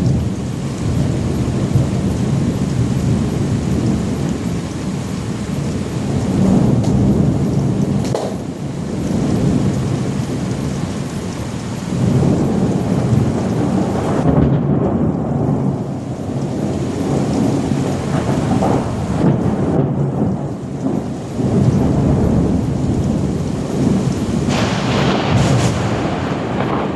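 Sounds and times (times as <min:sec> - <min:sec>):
rolling thunder: 0:00.0 - 0:26.9
steady rain: 0:00.0 - 0:26.9.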